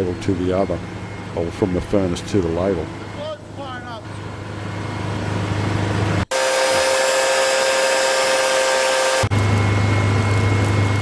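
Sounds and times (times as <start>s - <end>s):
furnace low hum: 0.0s - 11.0s
high steady whine with hiss: 0.0s - 11.0s.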